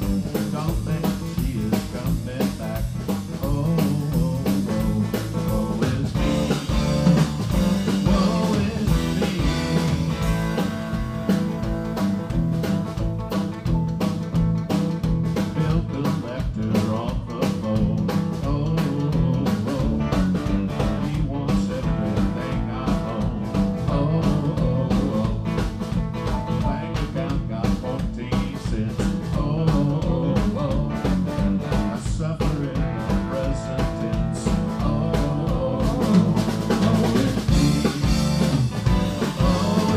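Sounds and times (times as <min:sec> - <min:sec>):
man singing: 0:00.0 - 0:11.0, 0:15.4 - 0:39.9
drum kit beat: 0:00.0 - 0:39.9
electric bass: 0:00.0 - 0:39.9
electric guitars: 0:00.0 - 0:39.9.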